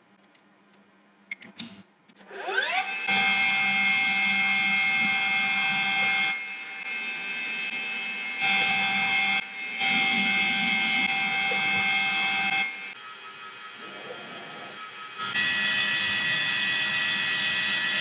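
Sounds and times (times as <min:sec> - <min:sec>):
lathe cutting whine: 0:02.3 - 0:18.0.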